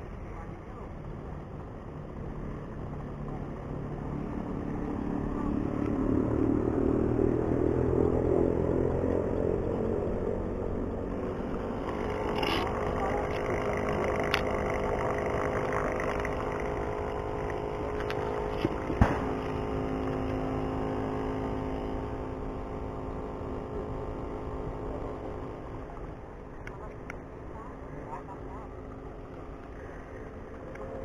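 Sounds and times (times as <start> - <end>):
motor engine running: 0.0 - 31.0.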